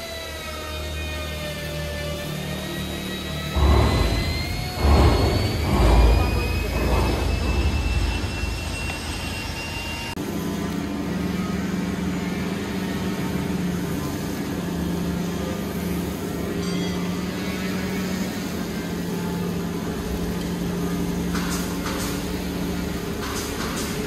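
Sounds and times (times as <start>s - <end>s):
heavy machinery humming: 0.0s - 24.0s.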